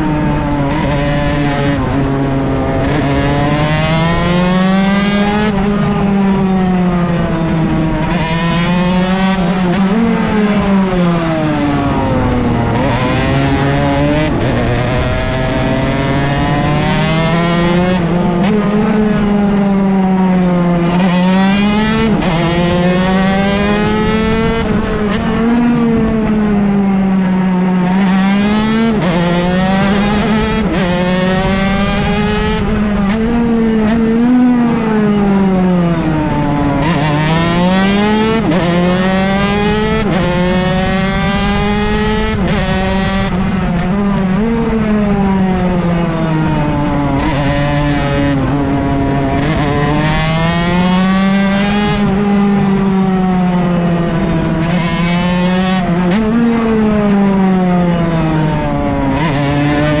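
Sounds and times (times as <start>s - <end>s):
racing engine revving: 0.0s - 60.0s
wind noise: 0.0s - 60.0s.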